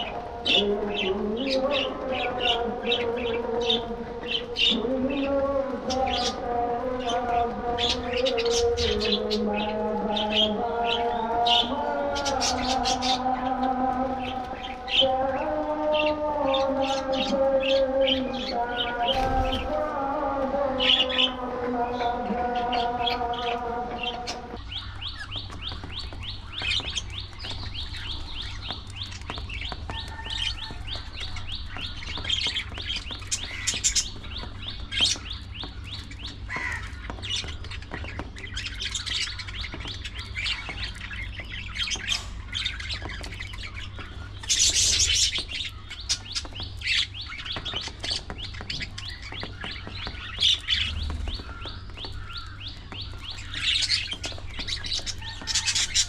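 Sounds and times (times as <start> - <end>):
budgerigars chirping and warbling: 0.0 - 56.0.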